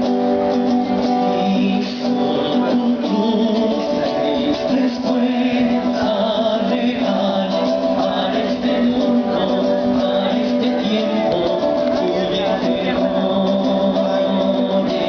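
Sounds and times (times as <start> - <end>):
group of voices singing: 0.0 - 15.0
strummed acoustic guitar: 0.0 - 15.0.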